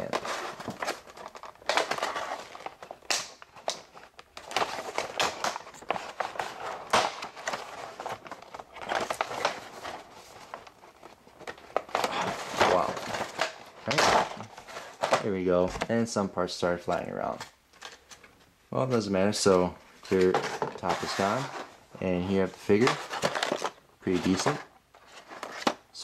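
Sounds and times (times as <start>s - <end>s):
plastic packaging crinkling: 0.0s - 15.5s, 20.0s - 26.0s.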